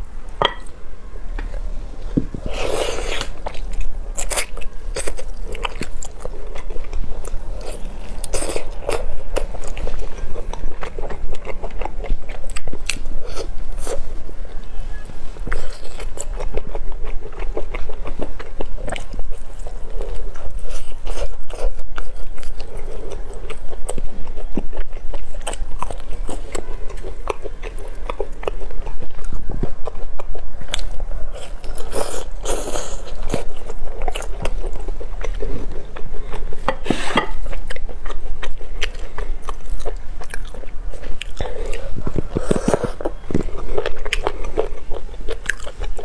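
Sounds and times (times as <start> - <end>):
person chewing close up: 2.5 - 14.6, 15.4 - 46.0.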